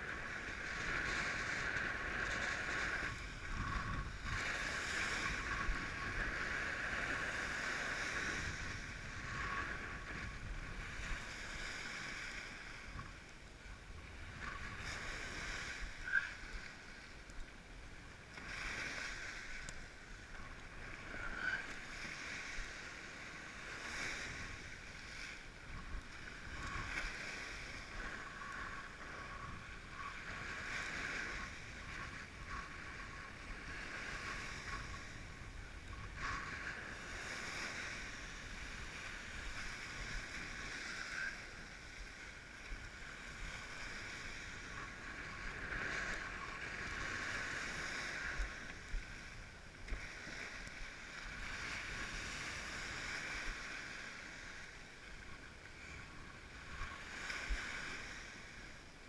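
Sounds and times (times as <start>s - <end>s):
board slapping water: 0.0s - 58.6s
wind: 0.0s - 59.0s.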